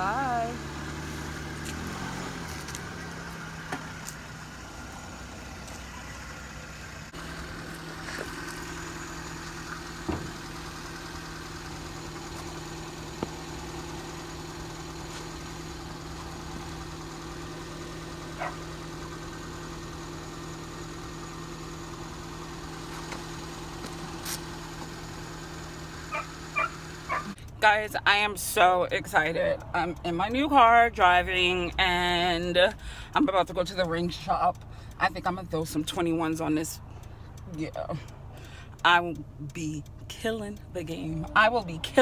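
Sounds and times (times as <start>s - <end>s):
car engine humming: 0.0s - 42.0s.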